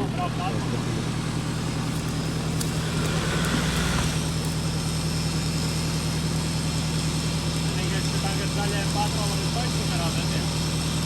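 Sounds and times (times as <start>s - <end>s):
suv engine running: 0.0s - 11.0s.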